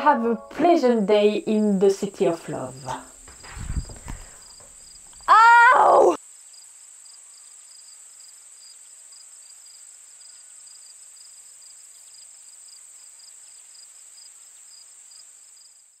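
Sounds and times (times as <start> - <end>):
lower insect chirp: 0.9 - 16.0.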